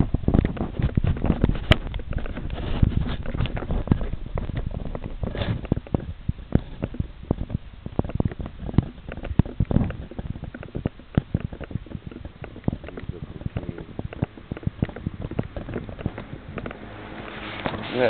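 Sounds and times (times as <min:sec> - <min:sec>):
camera handling knocks and rubbing: 0:00.0 - 0:17.9.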